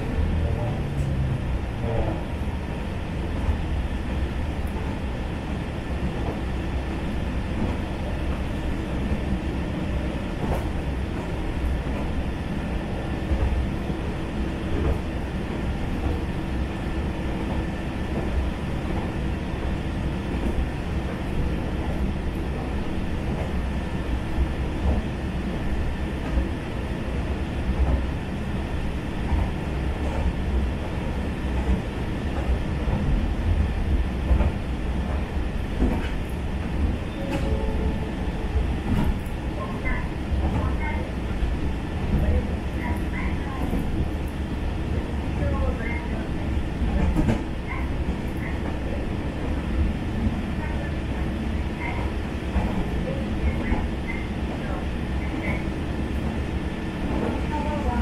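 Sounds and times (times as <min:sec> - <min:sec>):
railcar engine and wheels rumbling: 0:00.0 - 0:58.0.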